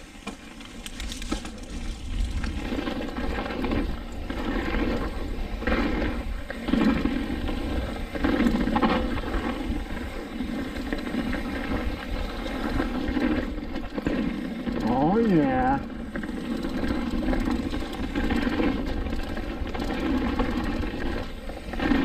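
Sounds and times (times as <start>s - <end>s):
bike tyres rolling over dirt: 0.0s - 22.0s
wind rumbling on microphone: 0.9s - 22.0s.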